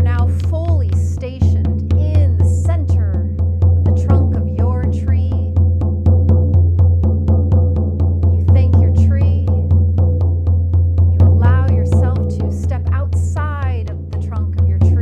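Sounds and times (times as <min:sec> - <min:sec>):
frame drum booming: 0:00.0 - 0:15.0.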